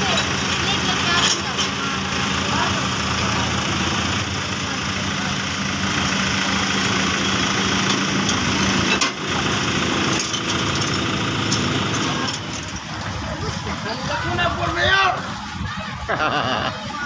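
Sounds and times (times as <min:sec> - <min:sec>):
vehicle engine idling: 0:00.0 - 0:15.6.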